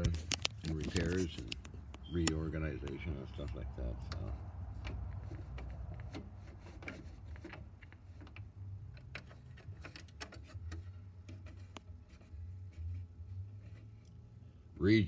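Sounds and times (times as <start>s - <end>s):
light clicks and taps: 0.0s - 12.3s
steady low hum: 0.0s - 15.0s.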